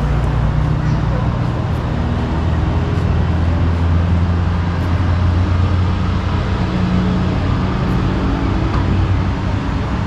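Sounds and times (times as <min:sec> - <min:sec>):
low car cabin drone: 0:00.0 - 0:10.0.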